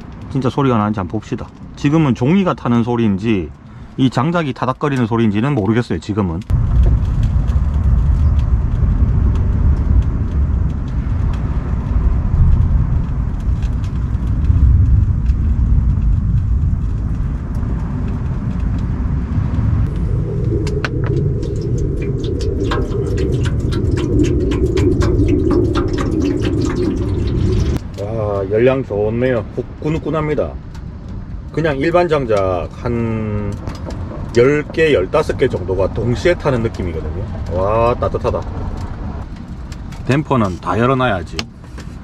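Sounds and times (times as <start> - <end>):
fire crackling and popping: 0.0 - 42.0
fire rumbling in wood stove: 0.0 - 42.0.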